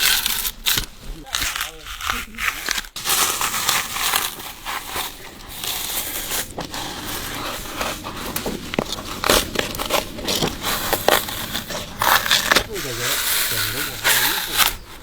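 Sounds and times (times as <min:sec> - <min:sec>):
bark tearing and crackling: 0:00.0 - 0:15.0.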